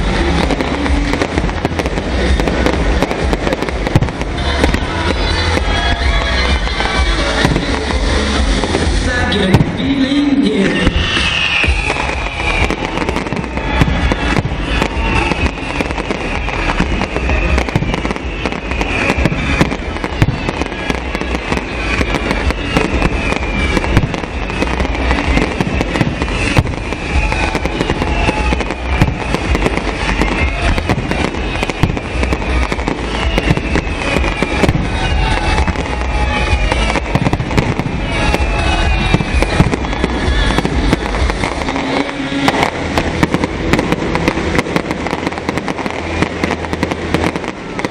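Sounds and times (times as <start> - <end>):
fireworks bangs and crackling: 0.0 - 47.9
high falling tone: 0.0 - 47.9.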